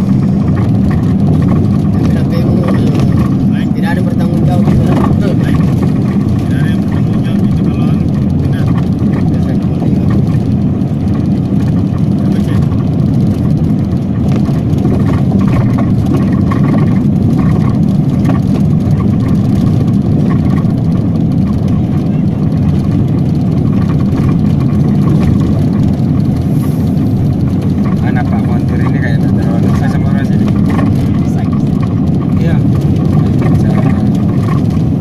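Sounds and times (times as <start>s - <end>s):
vehicle engine and tyre rumble: 0.0s - 35.0s.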